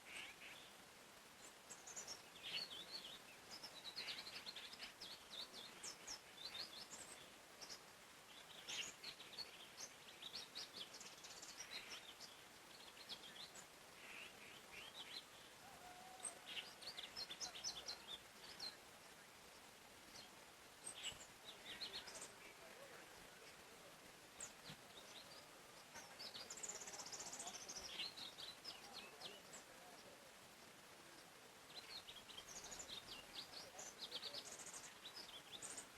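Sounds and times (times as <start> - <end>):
faint steady hiss: 0.0 - 35.9
songbirds chirping and trilling: 0.0 - 35.9.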